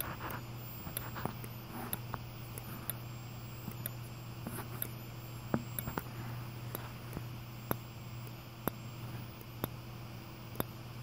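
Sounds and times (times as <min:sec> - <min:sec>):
capacitor recharging whine: 0:00.0 - 0:11.0
strobe clicking: 0:00.0 - 0:11.0.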